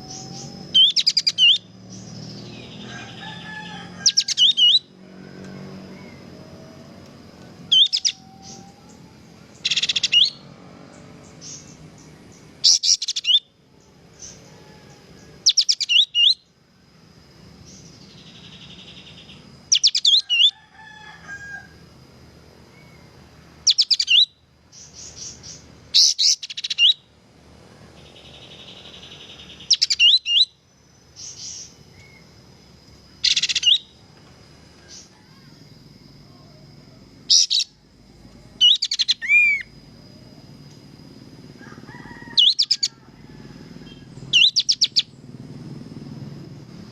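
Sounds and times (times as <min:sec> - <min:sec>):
bulbul singing: 0:00.0 - 0:14.5, 0:15.2 - 0:16.6, 0:17.5 - 0:20.5, 0:22.7 - 0:27.1, 0:27.8 - 0:34.1, 0:34.8 - 0:43.1, 0:43.8 - 0:45.4.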